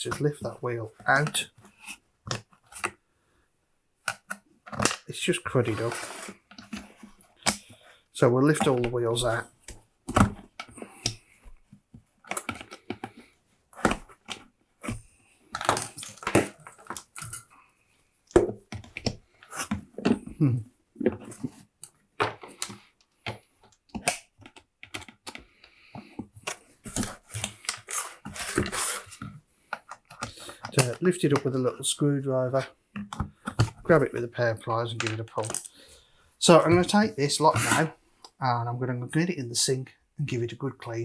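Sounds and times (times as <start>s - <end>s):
plastic parts clicking and scraping: 0.1s - 3.0s, 4.0s - 17.6s, 18.3s - 31.8s, 32.6s - 38.4s.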